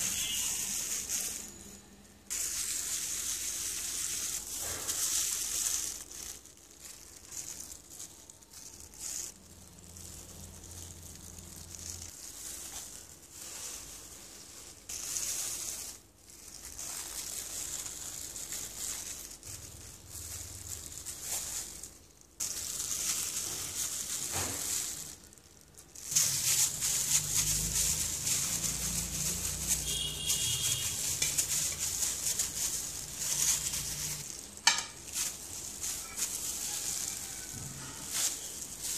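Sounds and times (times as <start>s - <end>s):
plastic glove crinkling: 0.0s - 38.9s.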